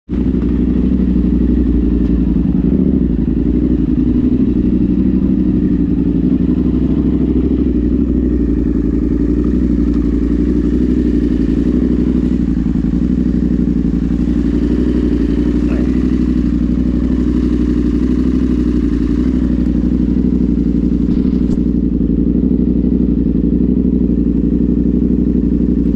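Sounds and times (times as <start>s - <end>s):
off-road vehicle engine running: 0.1s - 25.9s.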